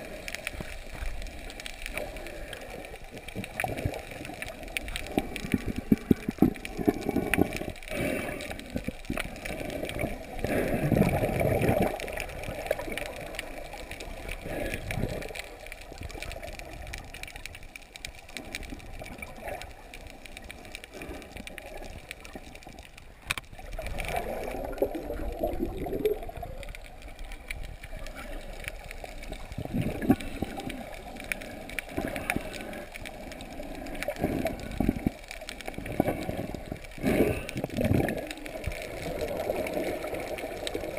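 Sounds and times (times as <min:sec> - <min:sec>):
water sloshing underwater: 0:00.0 - 0:40.9.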